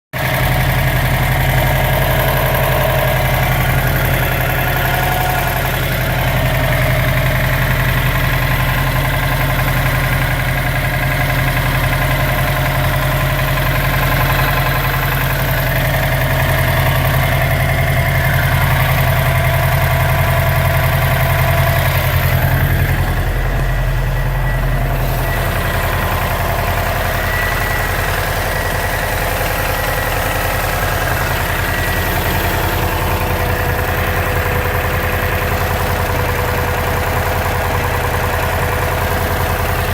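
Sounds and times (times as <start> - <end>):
car engine idling: 0.1 - 39.9
engine knocking noise: 0.1 - 39.9.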